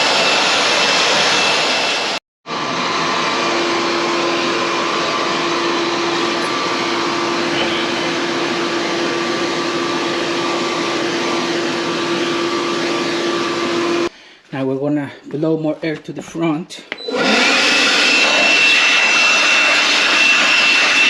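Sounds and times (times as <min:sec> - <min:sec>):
air blower motor whine: 0:00.0 - 0:14.1, 0:16.9 - 0:21.0.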